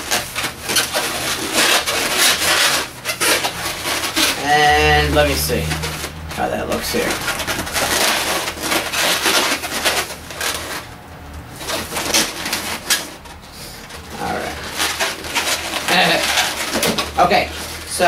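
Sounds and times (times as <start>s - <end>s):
balloons squeaking and rustling: 0.0s - 18.0s.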